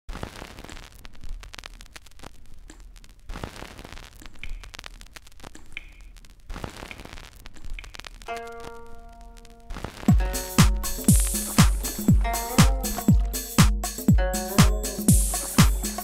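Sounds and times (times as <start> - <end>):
crackling static with pops: 0.1 - 16.0.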